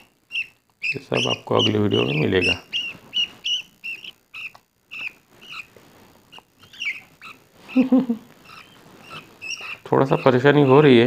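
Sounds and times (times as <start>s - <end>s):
bird chicks peeping: 0.0s - 11.0s.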